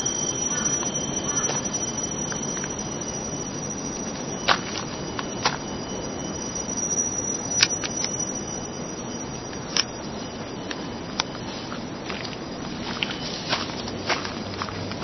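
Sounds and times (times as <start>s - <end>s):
rainforest background hiss: 0.0s - 15.0s.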